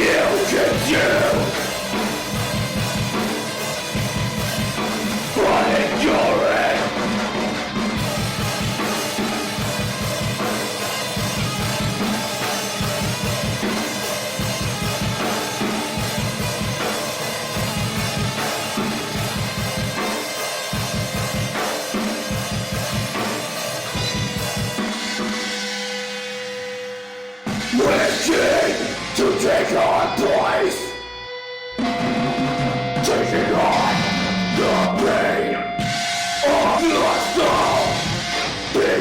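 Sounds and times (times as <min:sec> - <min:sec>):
deathcore metal song: 0:00.0 - 0:39.0.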